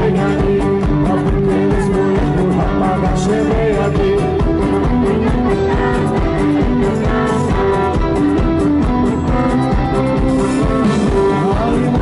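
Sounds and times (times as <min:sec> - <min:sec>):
drums: 0:00.0 - 0:12.0
electric guitar: 0:00.0 - 0:12.0
live rock band: 0:00.0 - 0:12.0.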